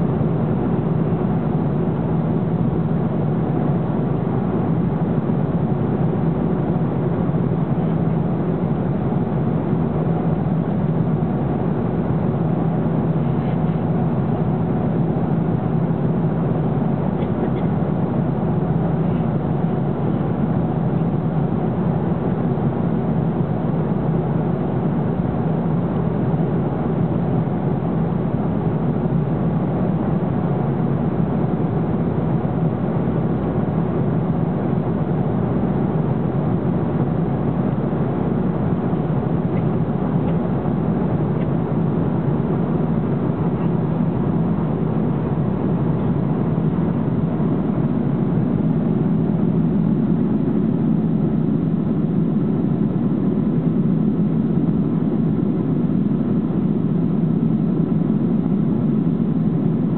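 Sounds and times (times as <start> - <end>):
jet engines and airflow rushing: 0.0 - 59.9
low hum: 0.0 - 59.9.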